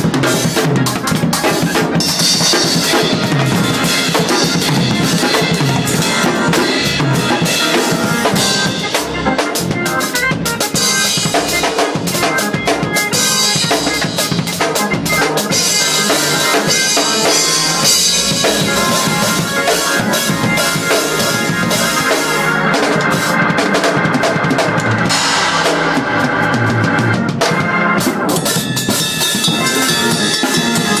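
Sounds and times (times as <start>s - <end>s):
drum kit played fast: 0.0s - 31.0s.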